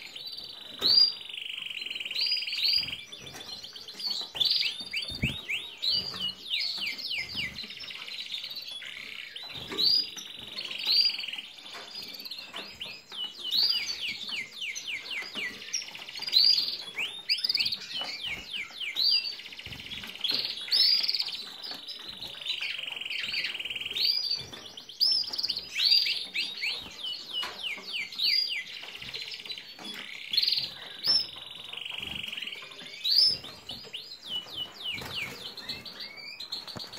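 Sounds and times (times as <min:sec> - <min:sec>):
finches singing: 0:00.0 - 0:36.9.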